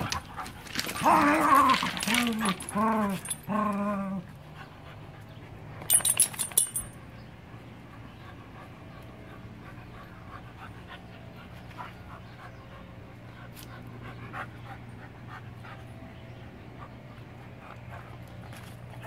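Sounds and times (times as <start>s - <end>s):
dogs panting: 0.0s - 3.5s, 4.2s - 19.0s.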